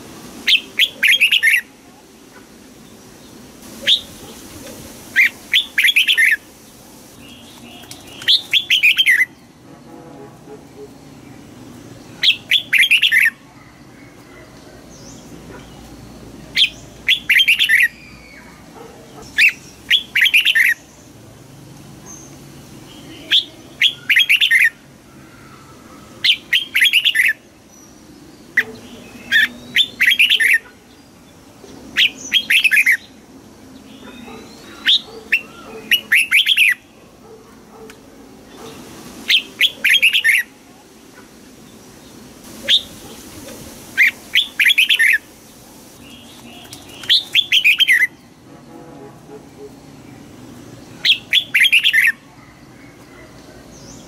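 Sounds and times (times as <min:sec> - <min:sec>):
bird singing warbled phrases: 0:00.4 - 0:04.5, 0:05.1 - 0:06.5, 0:07.2 - 0:09.6, 0:10.8 - 0:21.2, 0:22.0 - 0:37.4, 0:38.5 - 0:43.3, 0:44.0 - 0:48.4, 0:50.0 - 0:54.0.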